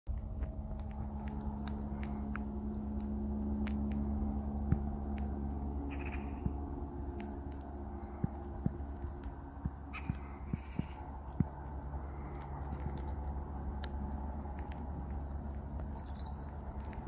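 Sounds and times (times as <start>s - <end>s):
distant helicopter drone: 0.1s - 17.0s
faint clicks: 0.1s - 17.0s
insects buzzing: 0.1s - 17.0s.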